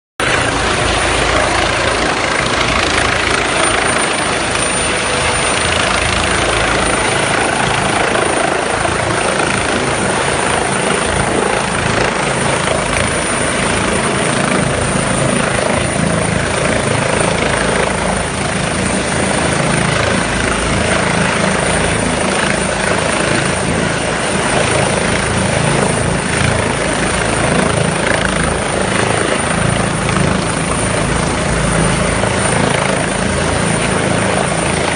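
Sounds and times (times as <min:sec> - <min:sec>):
helicopter rotor and engine: 0:00.2 - 0:34.9.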